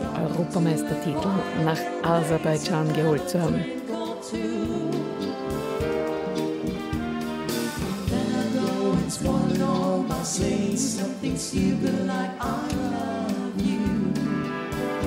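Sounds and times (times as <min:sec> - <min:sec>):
slow rumba song: 0:00.0 - 0:15.0.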